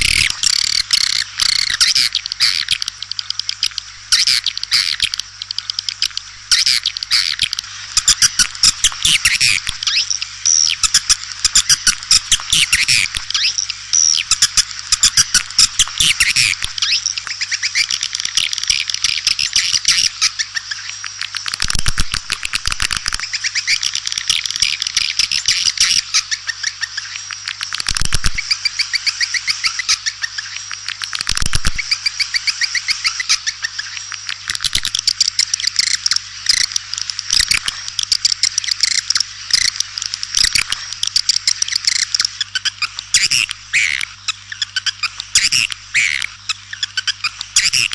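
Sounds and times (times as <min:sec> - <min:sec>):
swiftlet chirping and twittering: 0:00.0 - 0:21.4, 0:22.1 - 0:27.2, 0:28.2 - 0:30.6, 0:31.5 - 0:34.0, 0:34.6 - 0:47.9.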